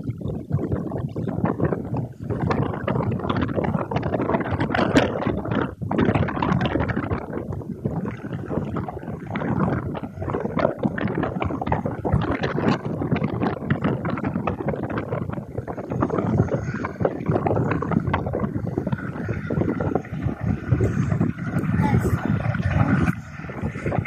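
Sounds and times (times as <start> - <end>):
helicopter rotors bubbling: 0.0 - 24.0.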